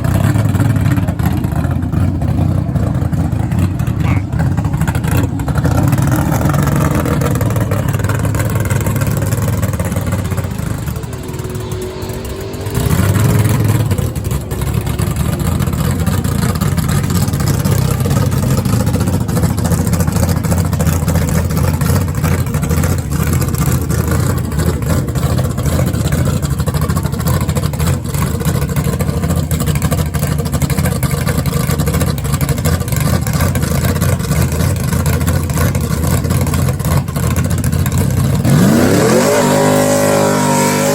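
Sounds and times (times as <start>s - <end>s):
drag racing engines: 0.0s - 40.9s.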